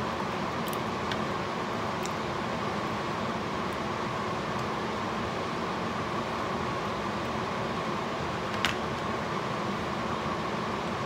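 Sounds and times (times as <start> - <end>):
kitchen fan hum: 0.0 - 11.0.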